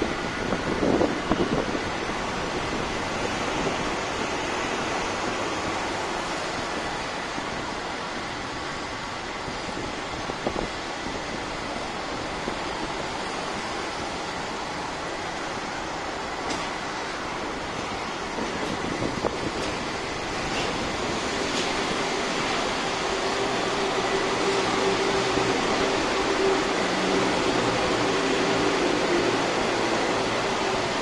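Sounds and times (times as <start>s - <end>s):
wind rushing over microphone: 0.0s - 16.8s, 17.4s - 31.0s
highway traffic hum: 0.0s - 31.0s.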